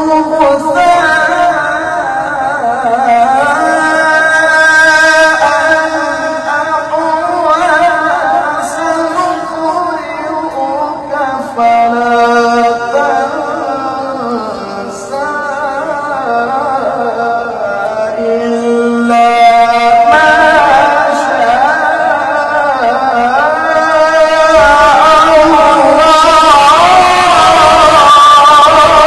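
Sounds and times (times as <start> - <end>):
man reciting melodically: 0.0 - 29.0.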